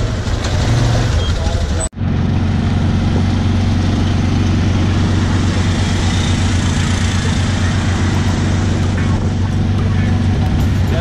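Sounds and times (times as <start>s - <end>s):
auto-rickshaw engine running: 0.0s - 11.0s
road and wind noise: 0.0s - 11.0s.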